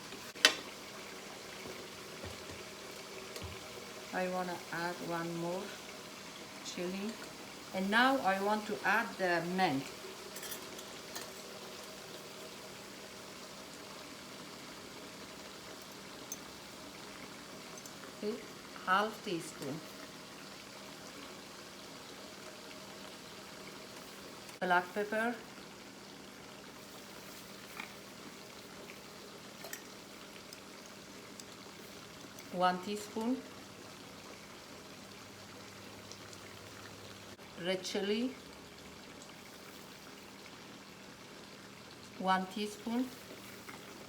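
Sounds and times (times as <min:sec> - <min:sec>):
sauce simmering in a pot: 0:00.0 - 0:44.0.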